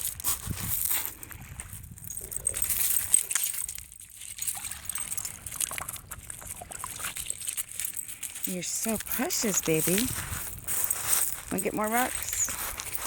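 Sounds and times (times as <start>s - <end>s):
pebbles clicking: 0.0s - 13.0s.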